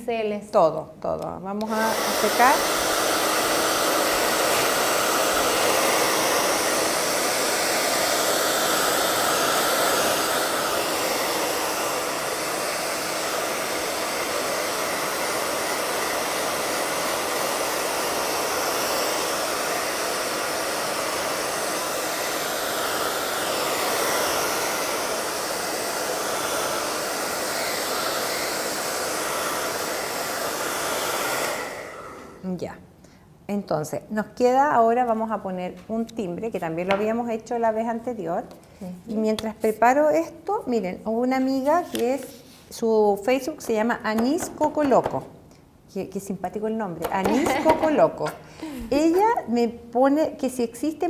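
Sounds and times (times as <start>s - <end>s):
hair dryer blowing: 1.5s - 32.6s, 36.4s - 45.3s, 46.2s - 51.0s.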